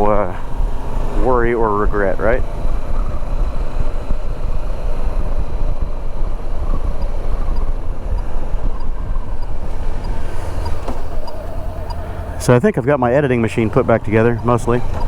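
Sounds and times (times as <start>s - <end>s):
motorcycle engine running: 0.0s - 15.0s
road noise: 0.0s - 15.0s
wind rush on microphone: 0.0s - 15.0s.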